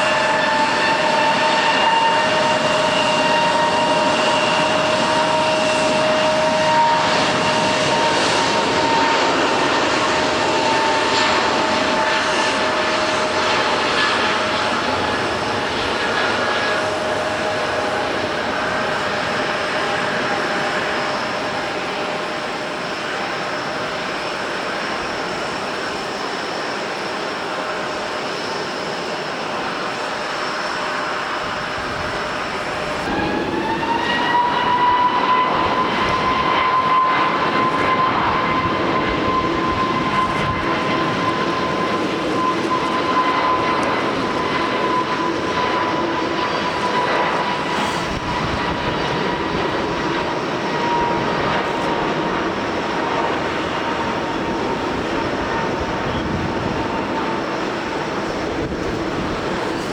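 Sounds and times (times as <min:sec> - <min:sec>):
jet engines spooling up: 0:00.0 - 0:59.9
wind: 0:00.0 - 0:59.9.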